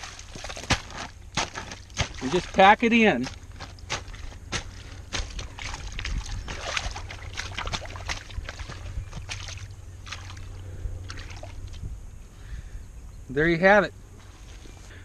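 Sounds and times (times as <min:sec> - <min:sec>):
mud squelching and sloshing: 0:00.0 - 0:11.9, 0:14.2 - 0:15.0.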